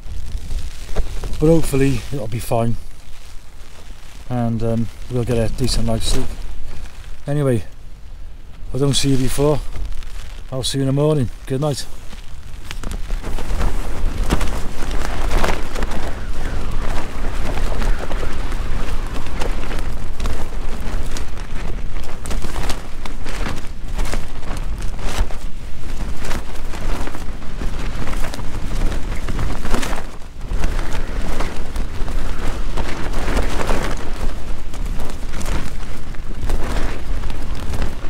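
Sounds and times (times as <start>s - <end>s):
gusting wind: 0.0s - 38.0s
tent fabric flapping: 0.0s - 38.0s.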